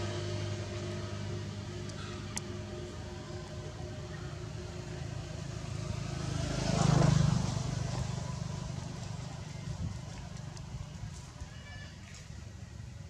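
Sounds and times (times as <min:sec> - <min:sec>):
motor vehicle passing: 0:00.0 - 0:11.5
low engine hum: 0:00.0 - 0:13.0.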